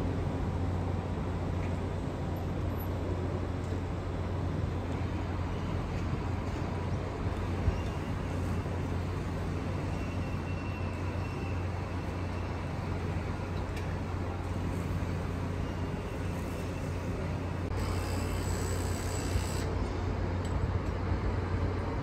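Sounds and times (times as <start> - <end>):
low rumble of engines: 0.0 - 22.0.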